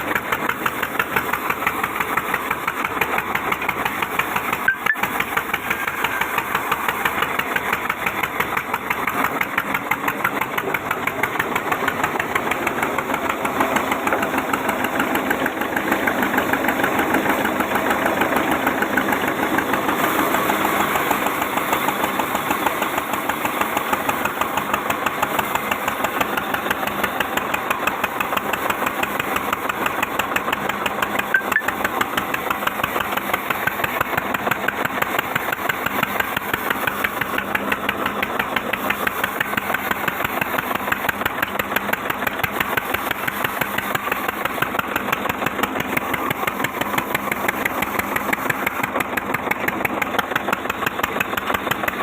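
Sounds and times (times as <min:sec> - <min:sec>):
engine chugging: 0:00.0 - 0:52.0.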